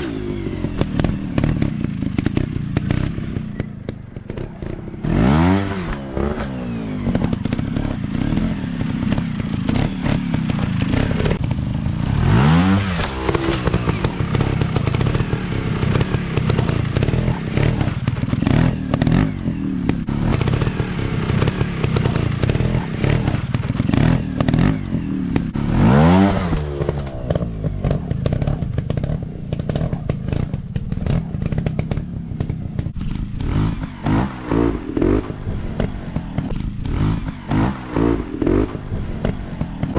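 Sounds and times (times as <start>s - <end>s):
dirt bike engine revving: 0.0s - 39.9s
engine knocks and clatter: 0.0s - 39.9s.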